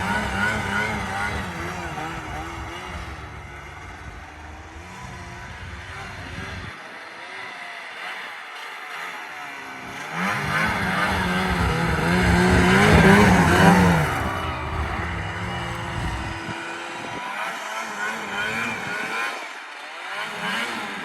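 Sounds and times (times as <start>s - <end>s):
snowmobile engine idling and revving: 0.0s - 21.0s.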